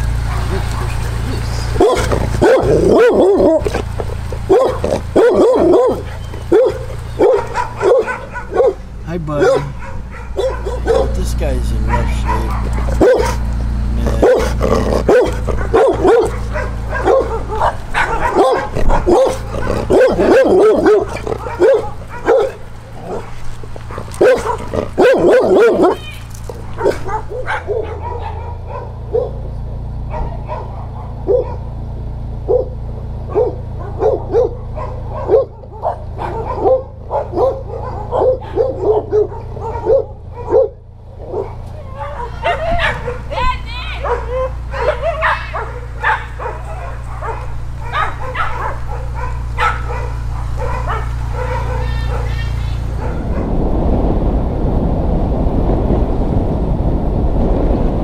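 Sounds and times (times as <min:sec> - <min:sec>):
dog barking and yipping: 0:00.1 - 0:29.5, 0:30.1 - 0:31.8, 0:32.4 - 0:53.5.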